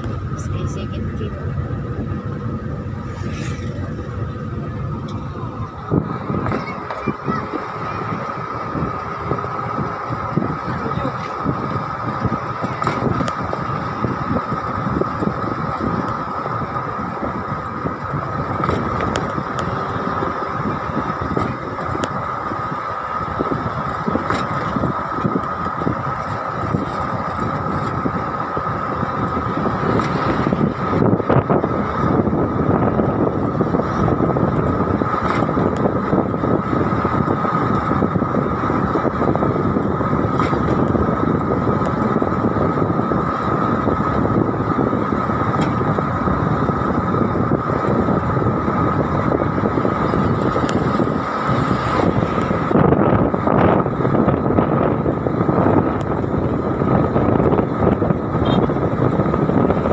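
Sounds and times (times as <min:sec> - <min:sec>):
thin steady whine: 0:00.0 - 0:59.9
truck passing: 0:00.0 - 0:59.9
vehicle road and wind noise: 0:00.0 - 0:59.9.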